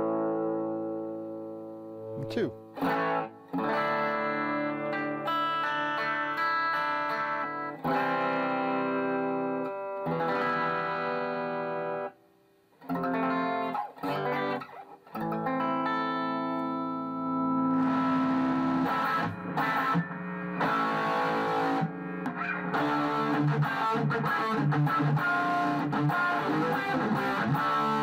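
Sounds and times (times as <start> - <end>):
electric guitar chords ringing: 0.0 - 12.2, 12.9 - 28.0.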